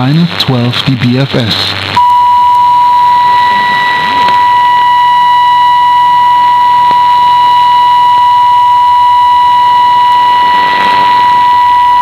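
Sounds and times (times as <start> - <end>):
radio static hiss: 0.0 - 12.0
steady test tone: 2.0 - 12.0.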